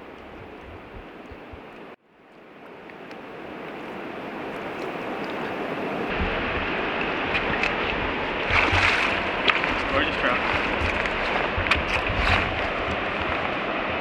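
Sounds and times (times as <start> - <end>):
flowing river water: 0.0 - 14.0.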